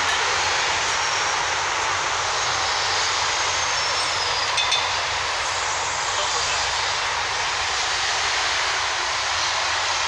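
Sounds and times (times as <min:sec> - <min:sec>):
loud steady rushing noise: 0:00.0 - 0:10.0.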